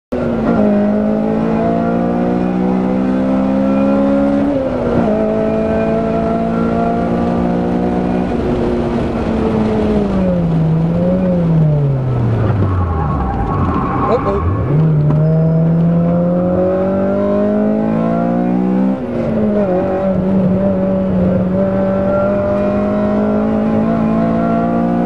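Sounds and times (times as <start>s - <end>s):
race car engine at full throttle: 0.1s - 25.0s.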